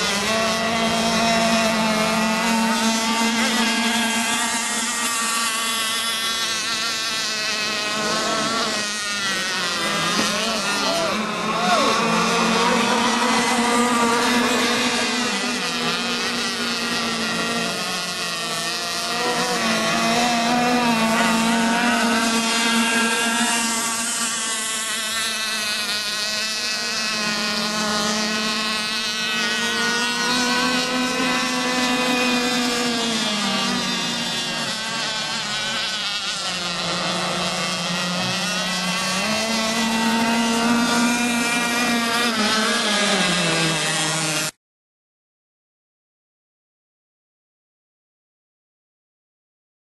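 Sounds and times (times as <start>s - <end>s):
model boat engines buzzing: 0.0s - 44.6s.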